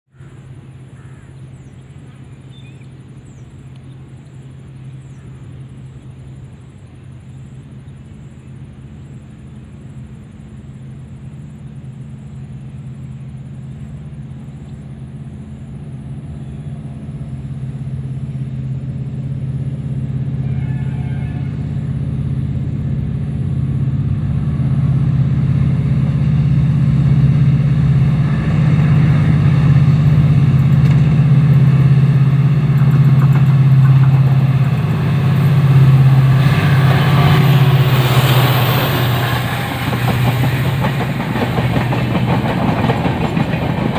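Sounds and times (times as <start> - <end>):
locomotive engine drone: 0.2 - 43.9
rushing noise of passing train: 0.2 - 43.9.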